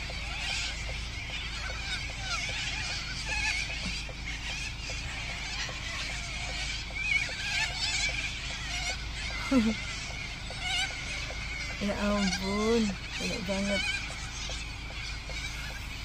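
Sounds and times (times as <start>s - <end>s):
flock of cockatoos squawking: 0.0s - 16.0s.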